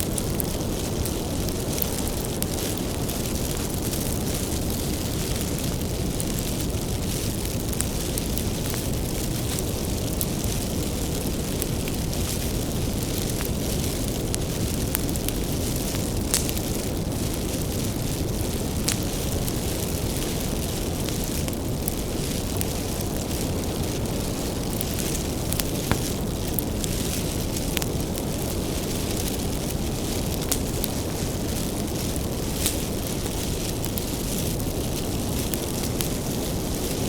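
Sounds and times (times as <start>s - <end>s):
firewood crackling and popping: 0.0s - 37.0s
low rumble of flames: 0.0s - 37.0s.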